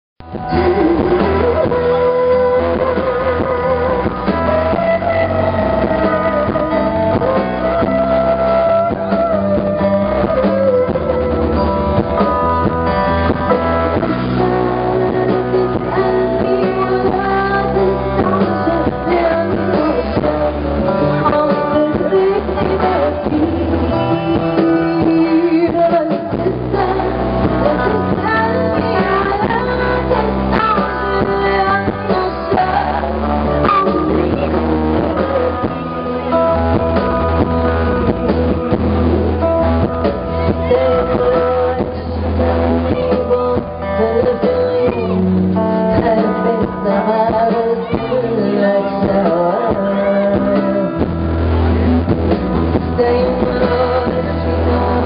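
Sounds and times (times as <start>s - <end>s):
woman singing: 0.3s - 55.0s.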